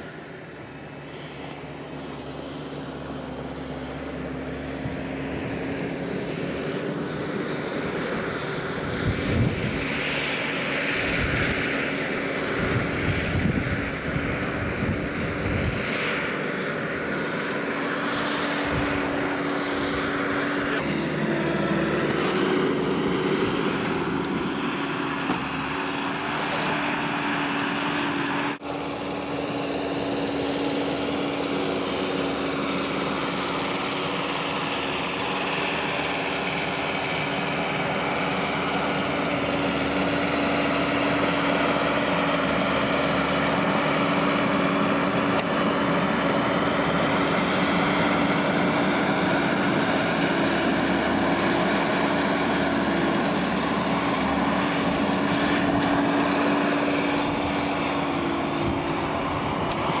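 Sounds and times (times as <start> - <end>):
engine droning steadily: 0.0 - 60.0.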